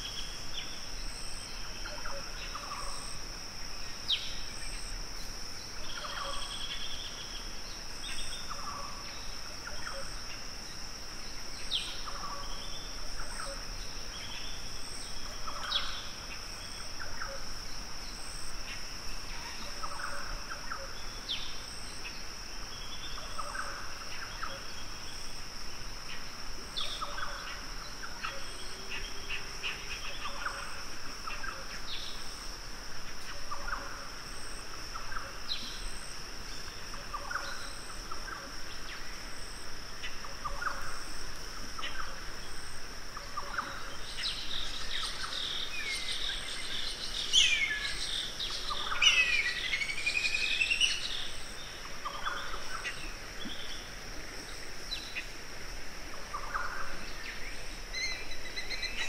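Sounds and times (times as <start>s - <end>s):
high-pitched insect drone: 0.0s - 55.4s.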